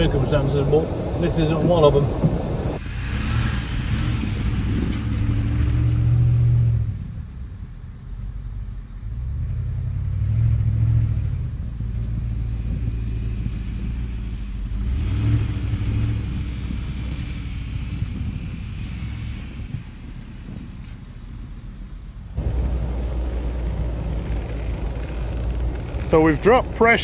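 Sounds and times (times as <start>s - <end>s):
car engine revving: 0.0s - 7.4s, 8.2s - 27.0s.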